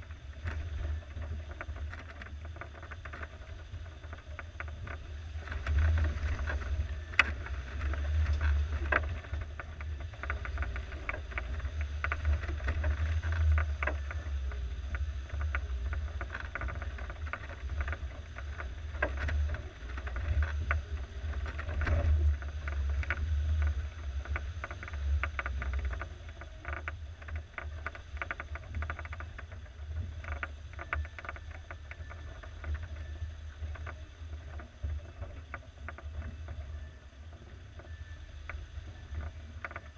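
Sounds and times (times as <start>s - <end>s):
off-road vehicle engine at low revs: 0.0s - 39.9s.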